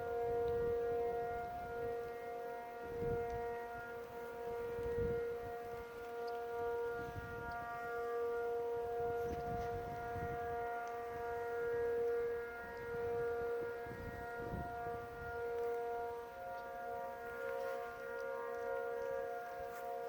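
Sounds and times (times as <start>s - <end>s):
civil defense sirens: 0.0s - 20.0s.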